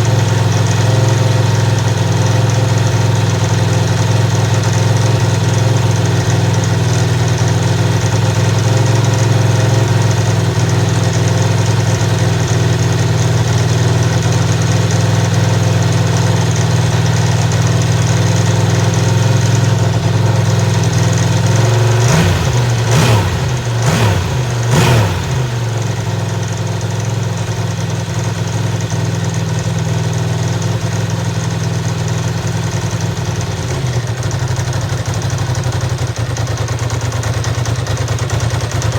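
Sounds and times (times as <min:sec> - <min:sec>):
engine throttle blips: 0:00.0 - 0:36.2
motorcycle engine idling: 0:00.0 - 0:38.9.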